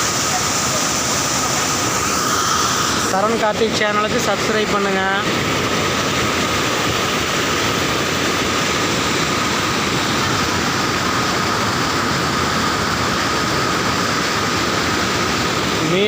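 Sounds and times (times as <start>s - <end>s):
floodwater rushing over waterfall: 0.0s - 16.0s.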